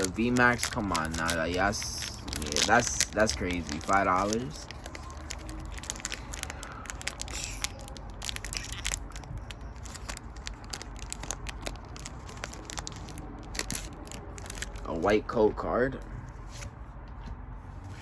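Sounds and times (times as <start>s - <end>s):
foil wrapper crinkling: 0.0s - 15.2s.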